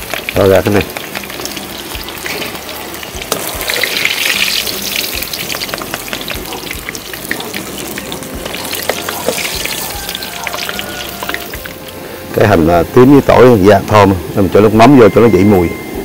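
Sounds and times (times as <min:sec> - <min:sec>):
food sizzling in oil: 0:00.0 - 0:13.3.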